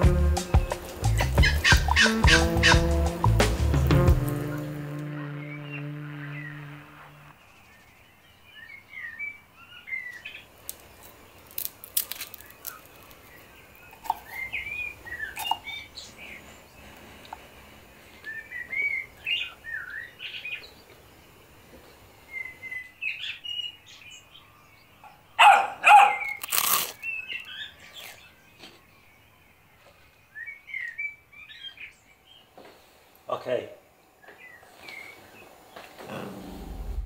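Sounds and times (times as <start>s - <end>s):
songbirds chirping and singing: 0.0s - 37.0s.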